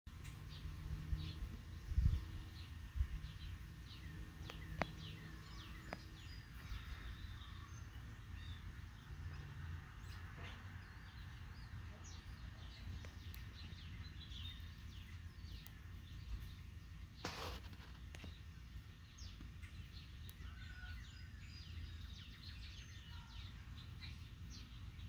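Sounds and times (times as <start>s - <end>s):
birds chirping: 0.1s - 25.0s.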